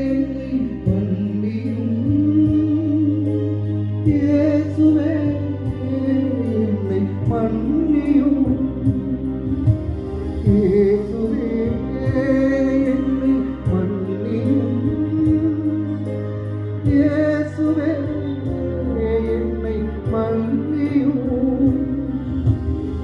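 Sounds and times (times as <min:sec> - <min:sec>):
instrumental accompaniment: 0:00.0 - 0:23.0
person singing slow melody: 0:00.0 - 0:23.0.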